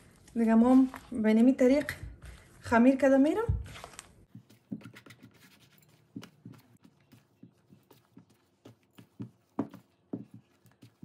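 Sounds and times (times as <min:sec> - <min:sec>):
hands kneading dough: 0:00.0 - 0:11.0.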